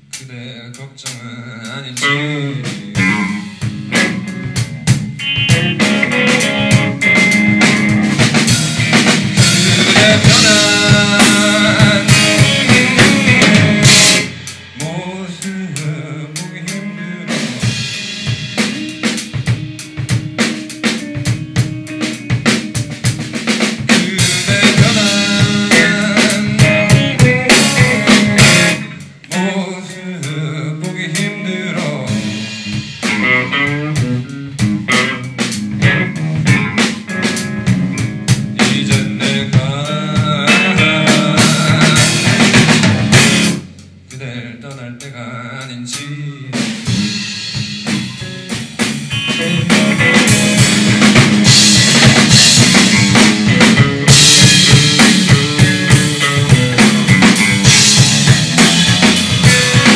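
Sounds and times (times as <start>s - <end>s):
drum kit: 0.0s - 59.9s
electric guitar: 1.9s - 43.9s, 46.6s - 59.9s.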